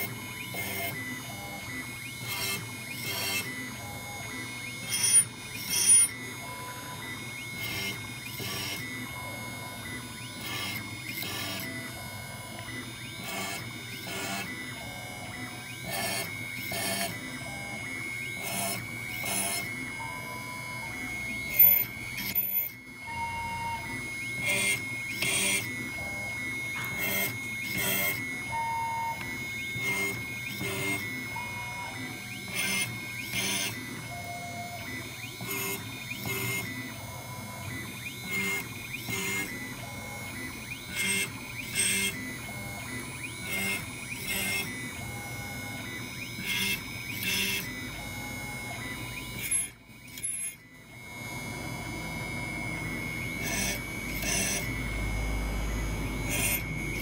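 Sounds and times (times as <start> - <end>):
drill cutting into metal: 0.0 - 57.0
router spindle whining: 0.0 - 57.0.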